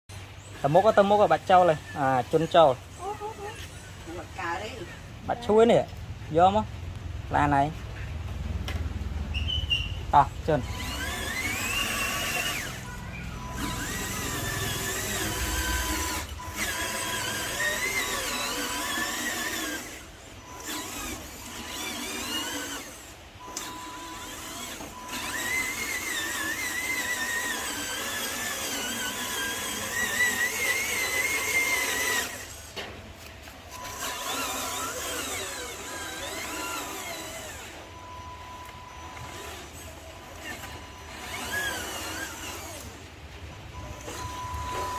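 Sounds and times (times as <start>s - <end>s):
small electric motors whining: 0.1s - 5.9s, 8.7s - 44.9s.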